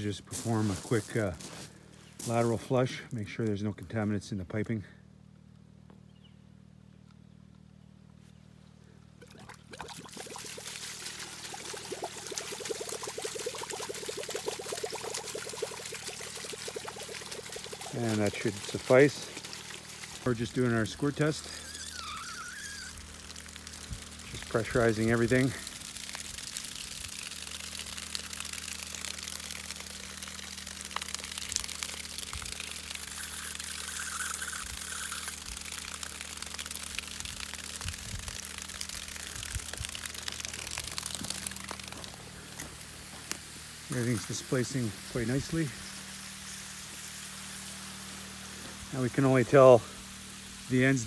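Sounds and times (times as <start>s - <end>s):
steady low hum: 0.0s - 51.0s
water gushing from pipe: 9.2s - 51.0s.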